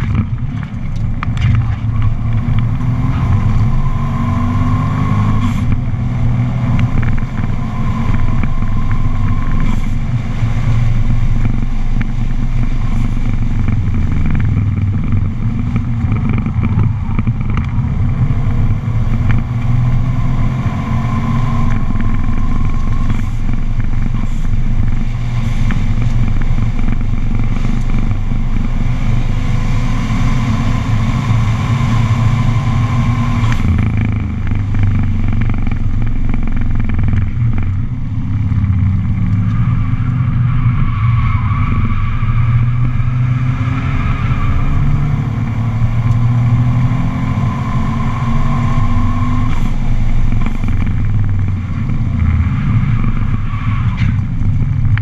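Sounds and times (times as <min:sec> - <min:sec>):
car engine revving: 0:00.0 - 0:55.0
wind and tyre noise: 0:00.0 - 0:55.0.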